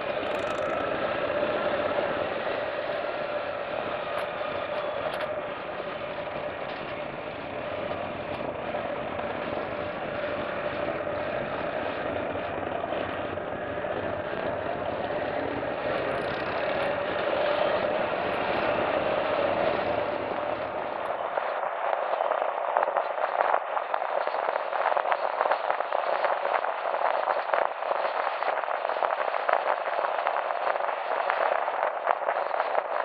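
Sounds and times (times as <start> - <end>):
motorcycle engine and road rush: 0.0 - 33.0.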